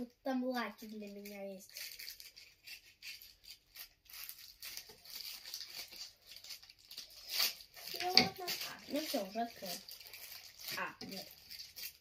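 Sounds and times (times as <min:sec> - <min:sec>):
plastic crinkling: 0:00.0 - 0:12.0
scissors snipping plastic: 0:01.0 - 0:12.0.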